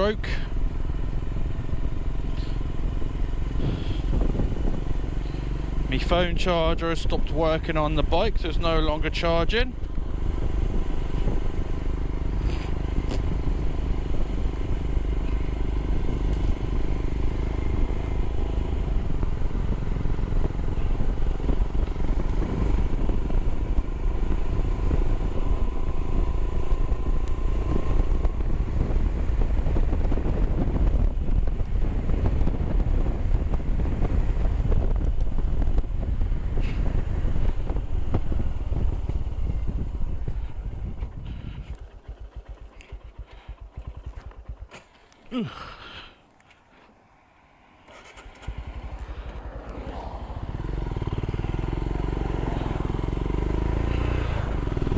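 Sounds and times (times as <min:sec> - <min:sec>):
motorcycle engine running: 0:00.0 - 0:46.9, 0:47.6 - 0:54.9
wind rumbling on microphone: 0:00.0 - 0:54.9.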